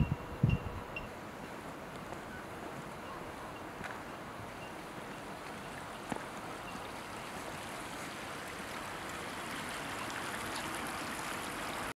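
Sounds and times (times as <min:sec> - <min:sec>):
fountain water rushing: 0:01.6 - 0:11.9.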